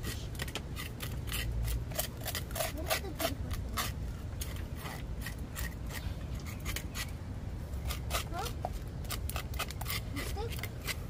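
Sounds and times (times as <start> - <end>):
knife scraping fish scales: 0.0 - 7.2, 7.8 - 11.0.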